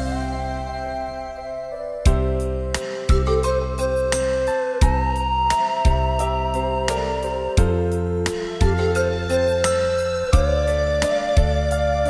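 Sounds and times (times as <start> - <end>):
instrumental pop backing music: 0.0 - 12.0.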